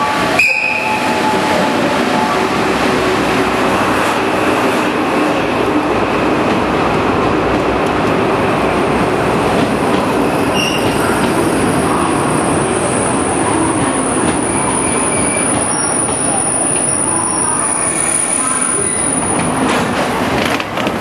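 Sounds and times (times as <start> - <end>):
train coaches rolling past: 0.0 - 21.0.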